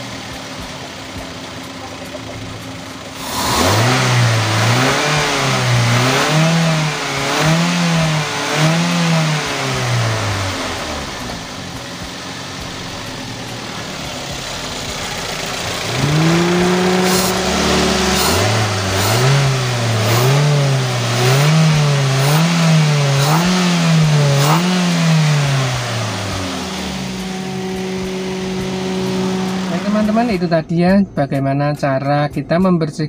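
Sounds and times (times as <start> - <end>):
car engine revving: 0.0 - 30.8.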